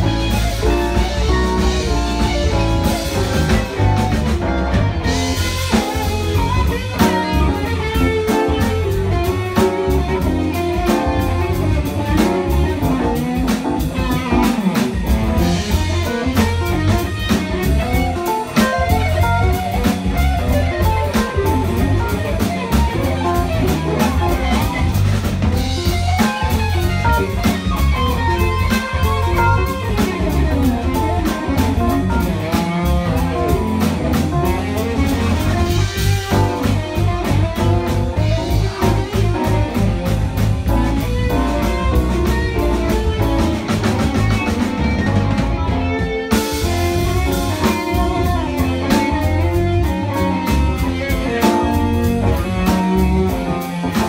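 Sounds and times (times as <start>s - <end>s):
electric guitar: 0.0s - 54.0s
jazz fusion band playing: 0.0s - 54.0s.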